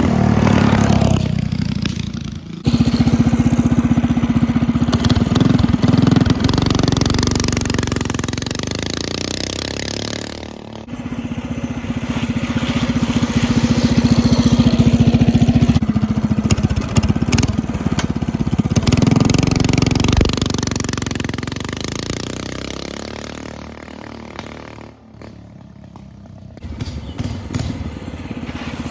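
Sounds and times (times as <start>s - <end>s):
minibike engine running: 0.0s - 28.9s.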